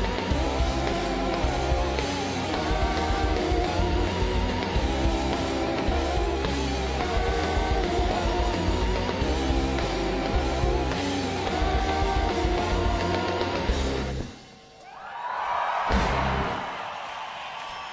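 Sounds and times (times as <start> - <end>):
hard rock band playing: 0.0 - 14.8, 15.9 - 16.9.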